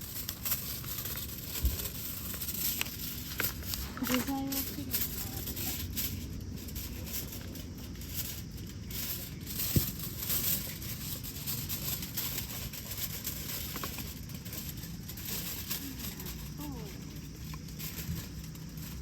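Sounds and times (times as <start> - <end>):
outdoor rumble: 0.0 - 19.0.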